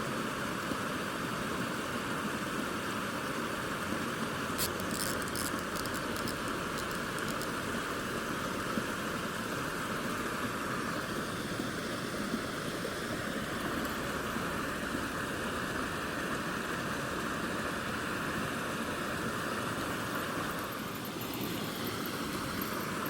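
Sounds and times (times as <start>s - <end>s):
stream water running into pool: 0.0s - 23.0s.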